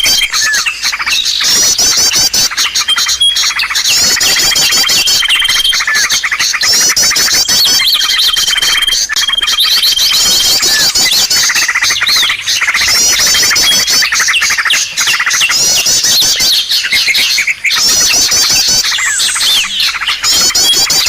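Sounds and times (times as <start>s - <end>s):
chorus of small birds chirping: 0.0s - 21.0s.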